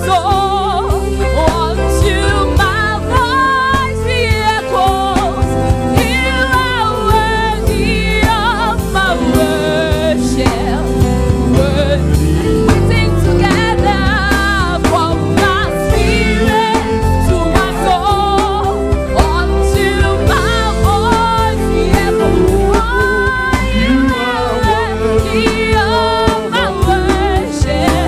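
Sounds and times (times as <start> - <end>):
band low accompaniment: 0.0 - 28.0
gospel singing with vibrato: 0.0 - 28.0.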